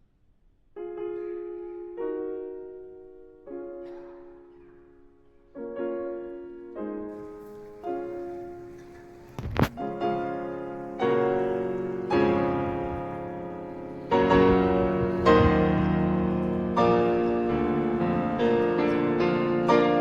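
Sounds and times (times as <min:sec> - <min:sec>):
slow piano chords: 0:00.8 - 0:20.0.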